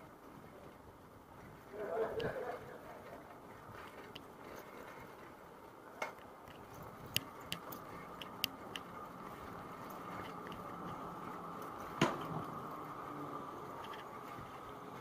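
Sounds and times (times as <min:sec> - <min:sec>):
bicycle tyres rumbling on bricks: 0:00.0 - 0:15.0
bike clicks and rattles: 0:00.0 - 0:15.0.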